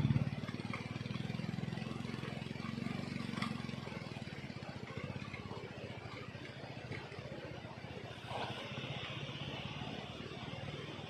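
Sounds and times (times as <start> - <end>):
motorcycle engine climbing under load: 0.0 - 11.0.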